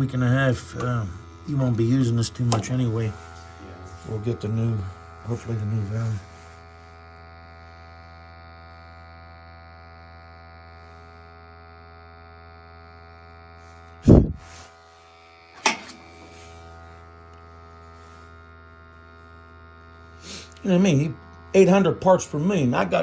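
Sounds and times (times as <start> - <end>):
buzzing hum of boiler equipment: 0.0 - 23.0.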